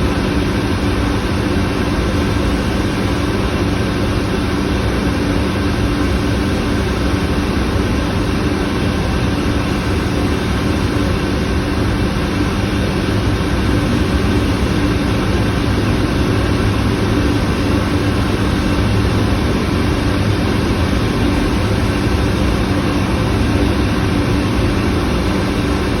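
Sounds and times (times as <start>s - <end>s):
constant low hum: 0.0s - 26.0s
steam boilers roaring: 0.0s - 26.0s.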